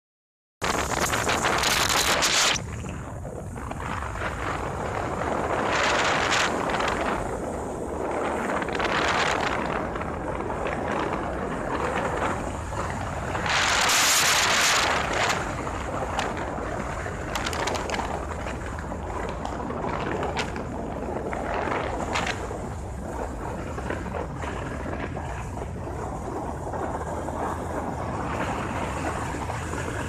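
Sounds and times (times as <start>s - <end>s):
low vehicle rumble: 0.6s - 30.0s
wind rushing over microphone: 0.6s - 30.0s.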